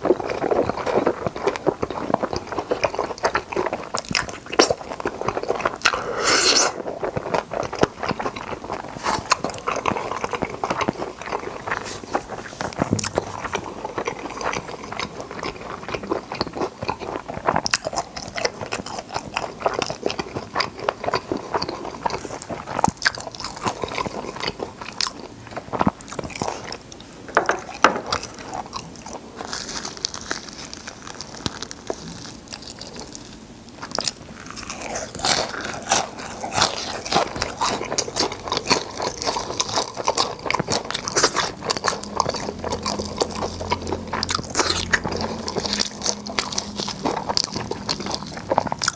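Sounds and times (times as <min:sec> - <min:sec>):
crunchy chewing of fried chicken: 0:00.0 - 0:48.9.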